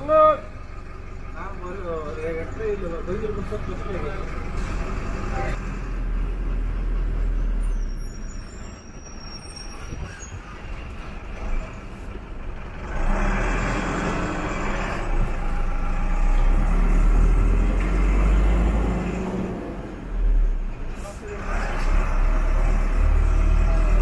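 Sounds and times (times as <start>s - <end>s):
bus engine running: 0.0s - 24.0s
road and rattle noise: 0.0s - 24.0s.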